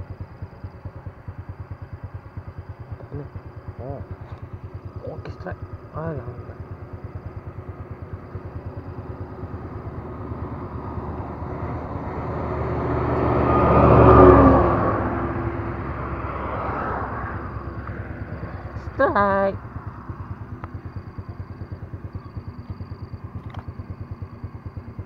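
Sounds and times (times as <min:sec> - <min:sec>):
heavy truck driving past: 0:03.1 - 0:23.2.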